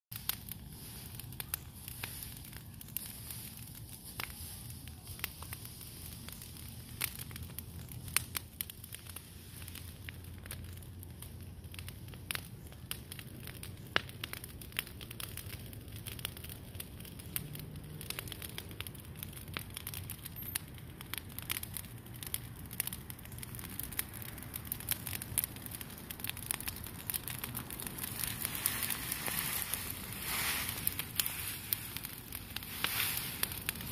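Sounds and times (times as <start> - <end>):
brush fire crackling and popping: 0.1 - 33.9.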